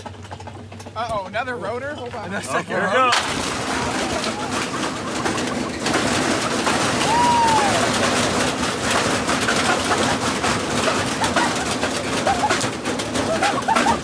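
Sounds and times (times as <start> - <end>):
metal clattering in spinning drum: 0.0 - 14.0
washing machine hum: 0.0 - 14.0.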